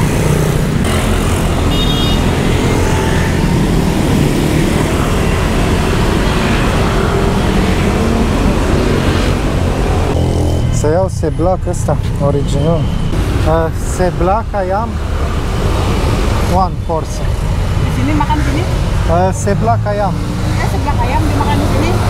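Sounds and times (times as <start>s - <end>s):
busy road traffic: 0.0s - 22.0s.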